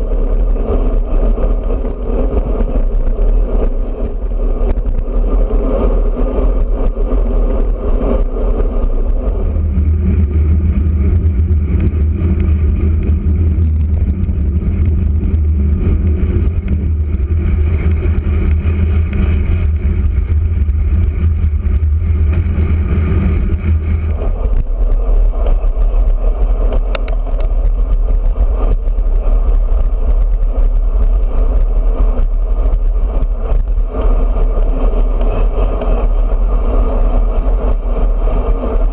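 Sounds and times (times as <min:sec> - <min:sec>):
tyre noise on asphalt: 0:00.0 - 0:38.9
wind rushing over microphone: 0:00.0 - 0:38.9.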